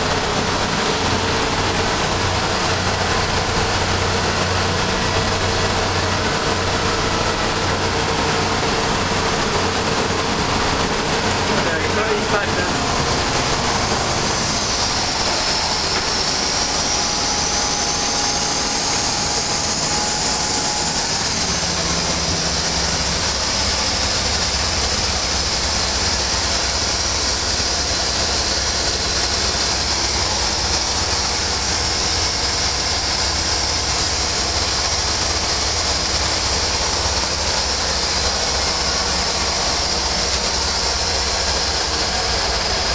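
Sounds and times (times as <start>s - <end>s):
boat engine drone: 0.0s - 42.9s
rush of wind and water: 0.0s - 42.9s.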